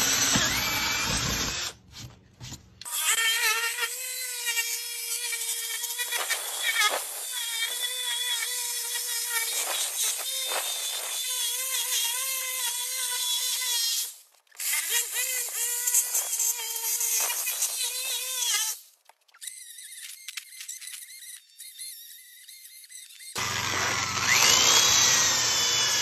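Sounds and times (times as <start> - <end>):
jigsaw cutting wood: 0.0 - 1.8, 2.9 - 18.8, 19.4 - 26.0.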